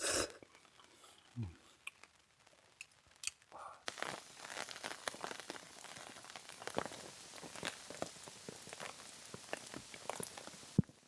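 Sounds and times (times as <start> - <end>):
raindrops pattering: 0.5 - 11.0
rain falling: 1.9 - 11.0.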